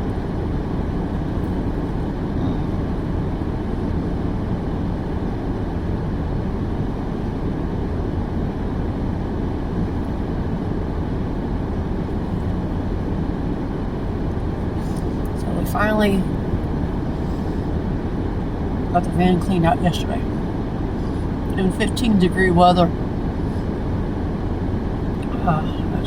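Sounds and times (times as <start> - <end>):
low rumble inside car cabin: 0.0 - 26.0.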